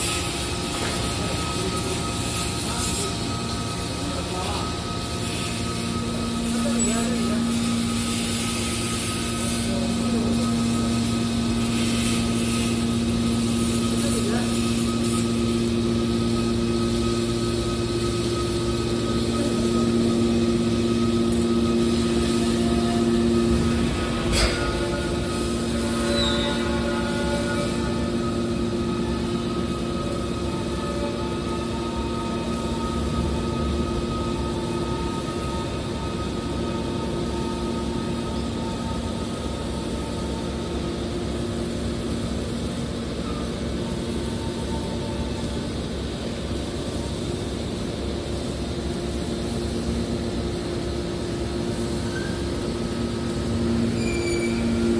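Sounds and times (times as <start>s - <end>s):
hydraulic pump motor humming: 0.0s - 46.1s.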